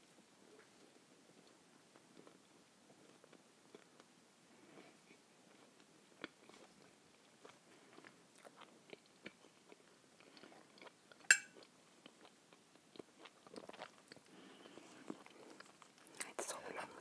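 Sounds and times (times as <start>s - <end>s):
quiet chewing: 0.4s - 17.0s.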